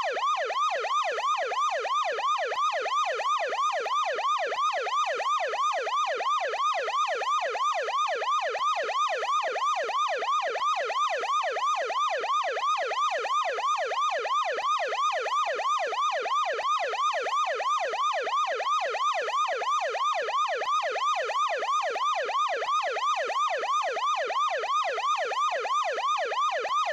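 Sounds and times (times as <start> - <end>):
ambulance siren yelping: 0.0 - 26.9.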